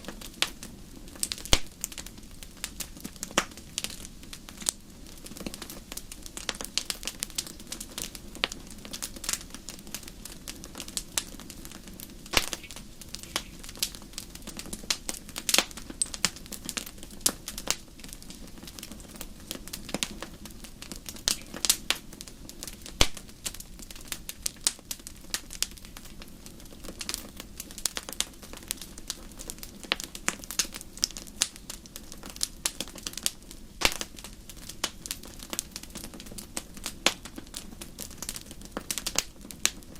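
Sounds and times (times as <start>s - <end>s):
campfire crackling: 0.0s - 39.9s
sharp pops of fire: 0.0s - 39.9s.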